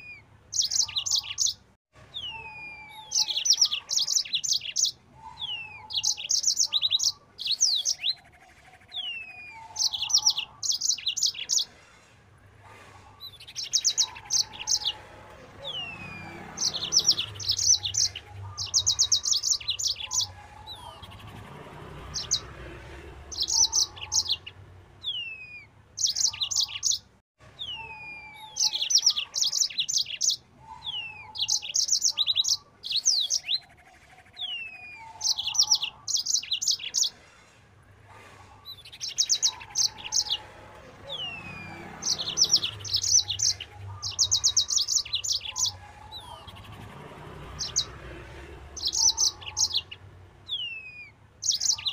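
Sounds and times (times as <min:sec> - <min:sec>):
canary singing whistles and trills: 0:00.0 - 0:11.8, 0:12.7 - 0:37.2, 0:38.3 - 0:51.9.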